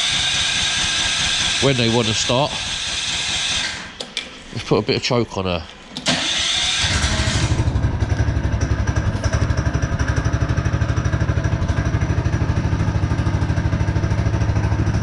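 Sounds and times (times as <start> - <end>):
small petrol engine idling: 0.0 - 3.9, 6.1 - 15.0.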